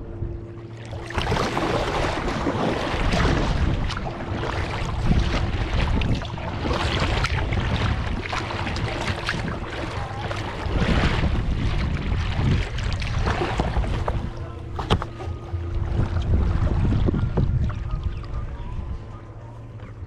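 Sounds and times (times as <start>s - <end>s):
wind on microphone: 0.0s - 20.0s
paddle splashing in water: 0.7s - 18.5s.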